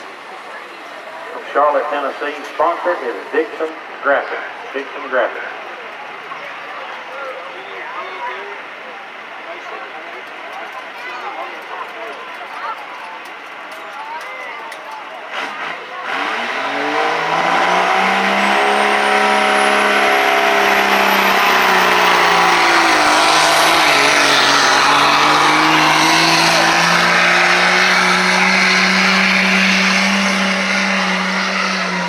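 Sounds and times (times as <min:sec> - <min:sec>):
truck engine at full throttle: 0:00.0 - 0:32.0.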